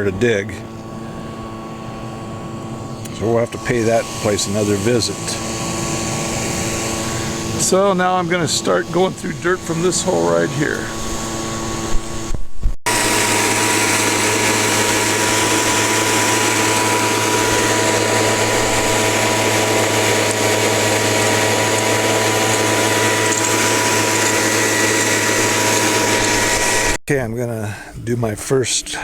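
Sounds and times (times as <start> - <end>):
dry washer machine running: 0.0 - 27.0.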